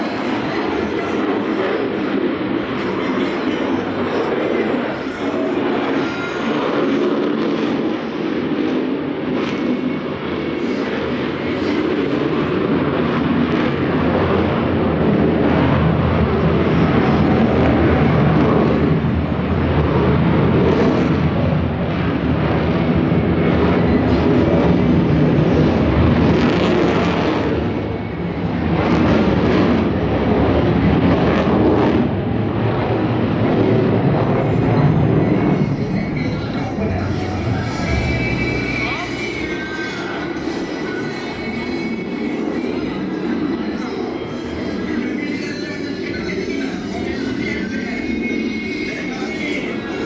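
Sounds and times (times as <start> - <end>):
fighter jet engine roar: 0.0 - 50.0.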